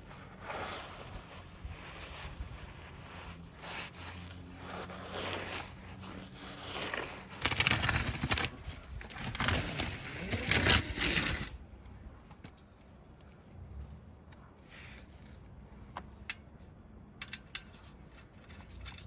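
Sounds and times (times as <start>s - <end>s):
scraping and handling noises: 0.1s - 19.0s.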